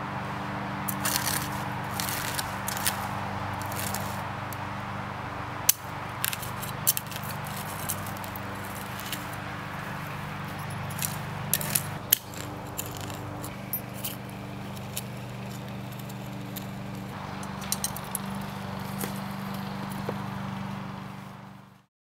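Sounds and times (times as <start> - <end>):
low mechanical hum: 0.0 - 21.9
hoe scraping soil: 0.8 - 4.8, 5.6 - 21.8
blade clicking on stones: 0.9 - 4.6, 5.7 - 20.1.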